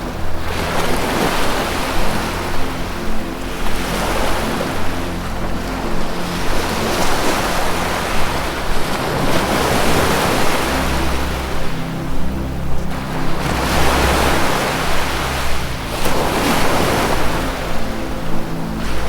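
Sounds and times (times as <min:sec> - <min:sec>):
ambient music low notes: 0:00.0 - 0:19.0
ocean waves washing: 0:00.0 - 0:19.0.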